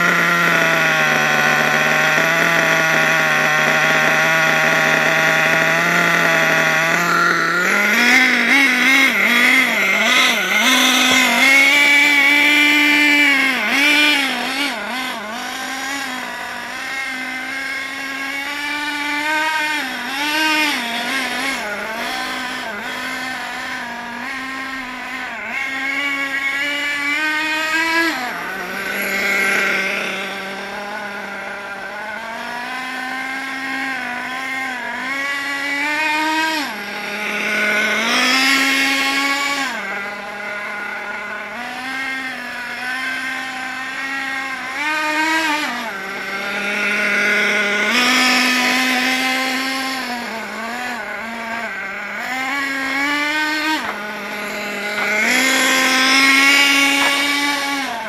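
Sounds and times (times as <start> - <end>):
model car nitro engine revving: 0.0 - 58.0.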